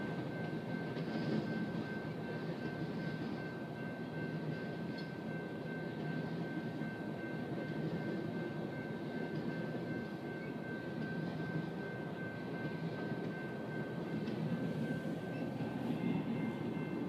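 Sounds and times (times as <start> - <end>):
steel wheels rumbling on rails: 0.0 - 17.0.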